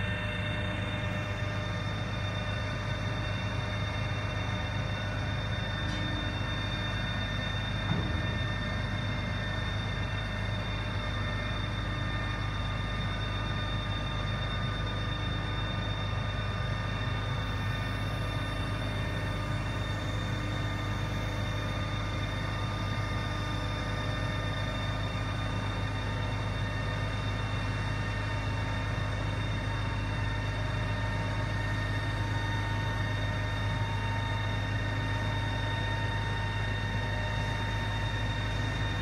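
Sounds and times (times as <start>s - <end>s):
crane diesel engine running: 0.0s - 39.0s.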